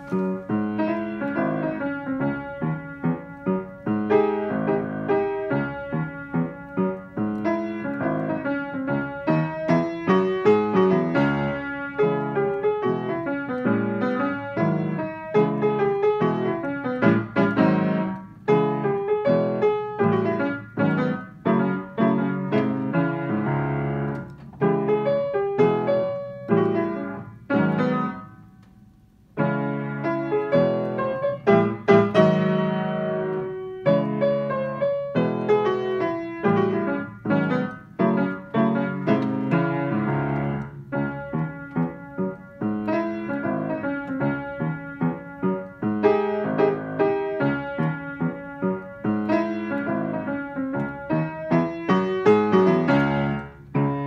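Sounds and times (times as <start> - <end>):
jazzy grand piano: 0.0 - 54.0.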